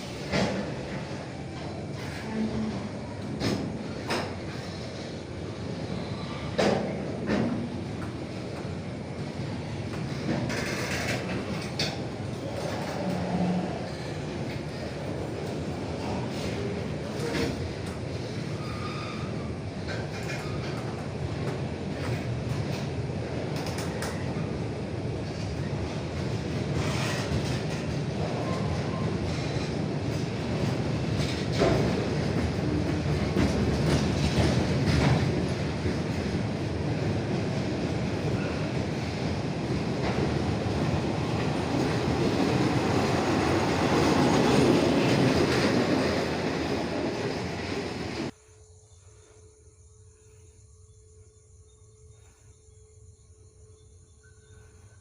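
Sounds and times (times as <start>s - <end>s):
wheels clacking over rail joints: 0.0s - 5.1s, 6.4s - 24.4s, 26.2s - 48.3s
train wheels rumbling: 0.0s - 49.3s.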